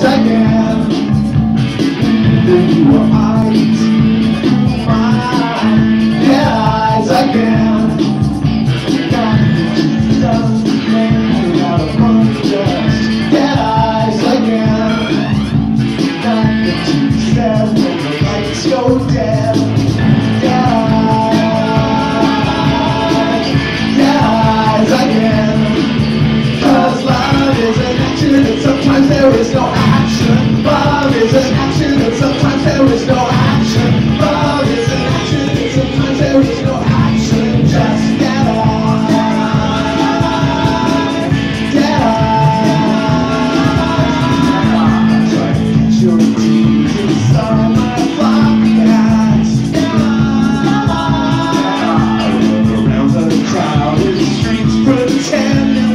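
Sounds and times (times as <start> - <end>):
rock band playing: 0.0 - 55.9.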